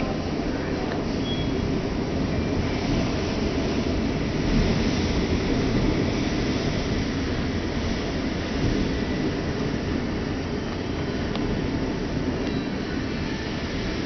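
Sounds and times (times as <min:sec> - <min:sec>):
strong wind blowing: 0:00.0 - 0:14.0
wind buffeting microphone: 0:00.0 - 0:14.0.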